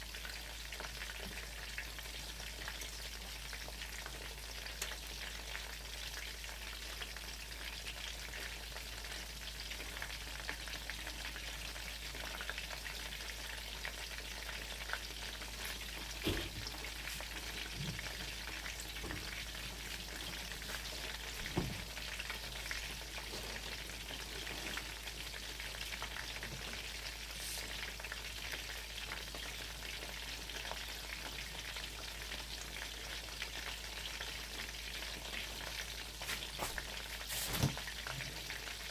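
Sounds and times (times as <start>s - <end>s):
chicken frying in hot oil: 0.0s - 38.9s.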